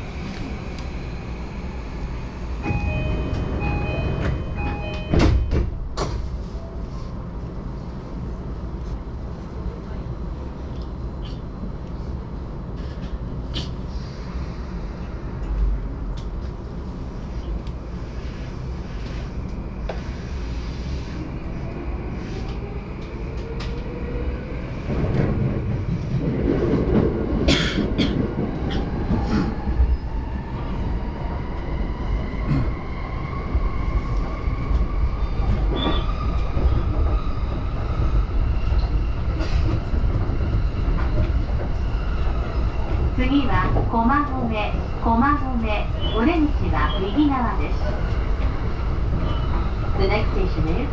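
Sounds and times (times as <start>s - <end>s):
train running rumble: 0.0s - 31.8s, 32.4s - 50.9s.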